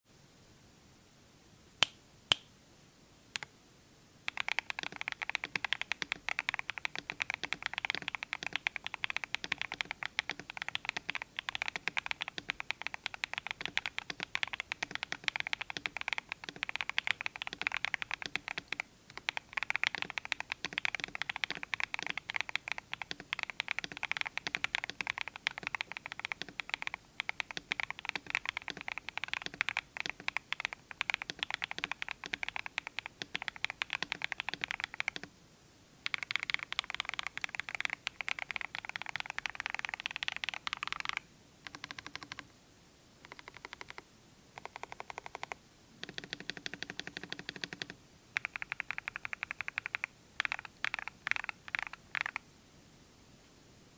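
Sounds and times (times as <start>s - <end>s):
mechanical keyboard typing: 4.3s - 35.3s, 36.0s - 42.4s, 43.3s - 44.0s, 44.6s - 52.4s.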